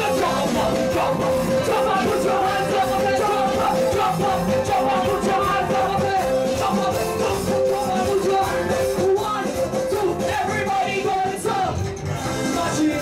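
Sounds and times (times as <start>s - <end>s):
drum and percussion beat: 0.0s - 13.0s.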